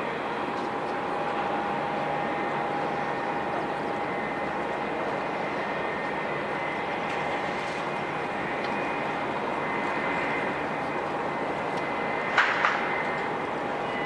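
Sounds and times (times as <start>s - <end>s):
jet engine whine: 0.0s - 14.0s.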